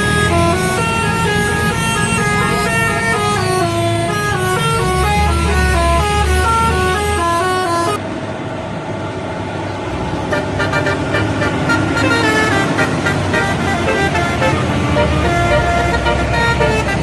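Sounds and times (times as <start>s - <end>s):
bus horn playing tune: 0.0s - 8.0s, 10.3s - 17.0s
vehicle engine noise: 0.0s - 17.0s.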